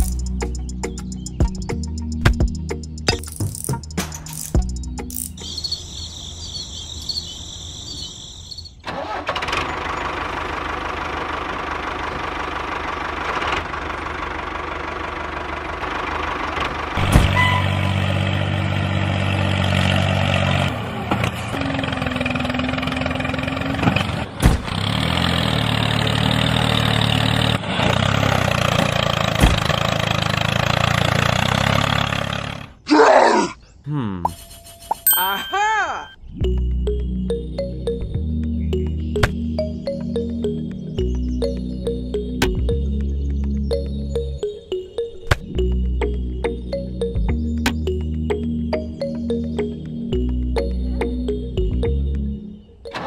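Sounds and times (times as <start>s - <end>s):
tractor engine running: 0.0s - 32.8s, 36.4s - 53.0s.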